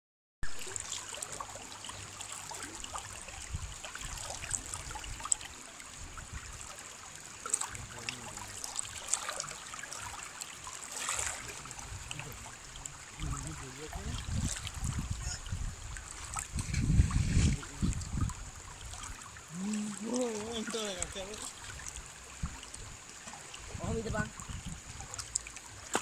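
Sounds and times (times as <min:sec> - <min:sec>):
small water splashes and plops: 0:00.4 - 0:26.0
stream flowing fast: 0:00.4 - 0:26.0.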